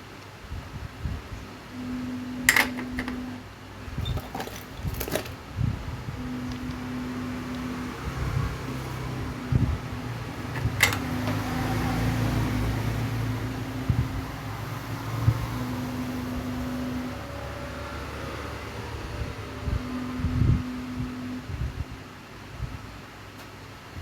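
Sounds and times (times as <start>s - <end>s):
low mechanical hum: 0.0s - 24.0s
higher humming tone: 1.6s - 22.1s.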